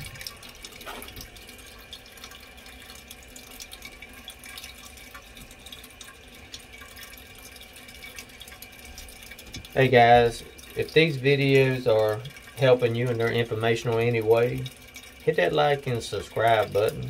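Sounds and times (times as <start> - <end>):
faint ticks and drips: 0.0 - 17.0
toilet tank refilling hiss: 0.0 - 17.0.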